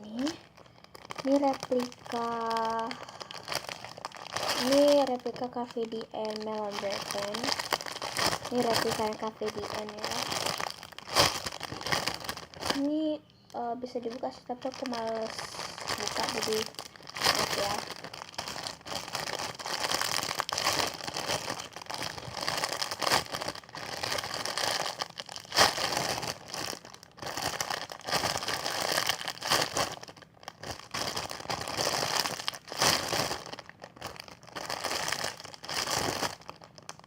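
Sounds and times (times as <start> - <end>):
plastic packaging crinkling: 0.0 - 37.0.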